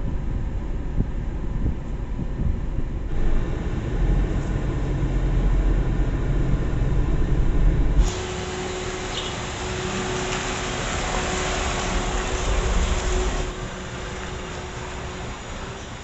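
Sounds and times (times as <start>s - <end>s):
car engine in cabin: 0.0s - 16.0s
road noise: 0.0s - 16.0s.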